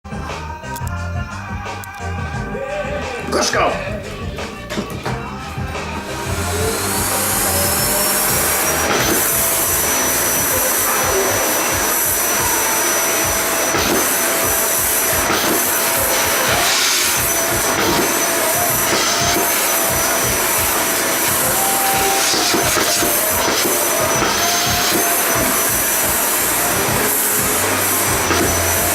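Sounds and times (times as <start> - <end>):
vacuum cleaner running: 3.2 - 28.9.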